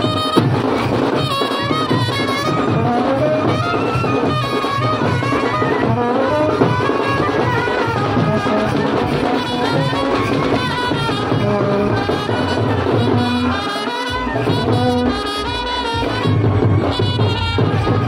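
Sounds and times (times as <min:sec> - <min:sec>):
brass band playing: 0:00.0 - 0:18.0
drum beat: 0:00.0 - 0:18.0.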